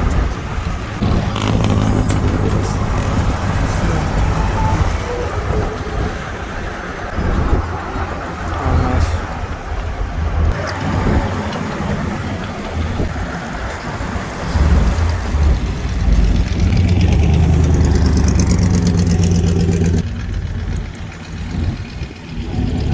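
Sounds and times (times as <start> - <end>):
car engine running: 0.0 - 22.9.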